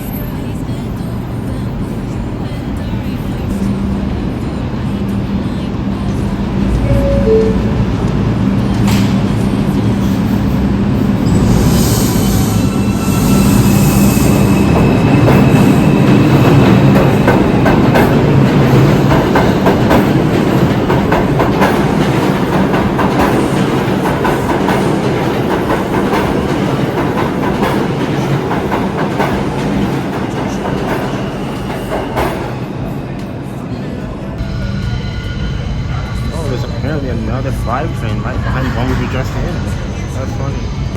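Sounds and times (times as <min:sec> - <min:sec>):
subway wheels clattering: 0:00.0 - 0:40.9.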